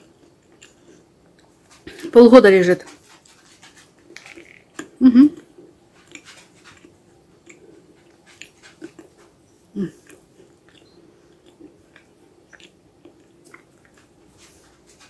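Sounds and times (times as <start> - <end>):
person chewing: 0.0 - 2.1, 3.2 - 15.0.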